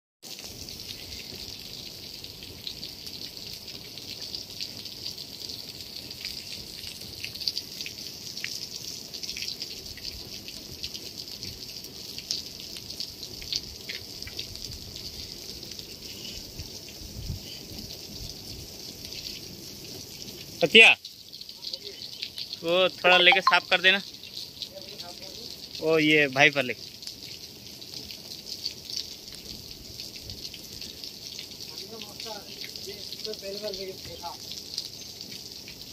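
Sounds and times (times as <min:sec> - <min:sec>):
drips and splashes on glass: 0:00.3 - 0:35.9
water spraying from nozzles: 0:00.3 - 0:35.9.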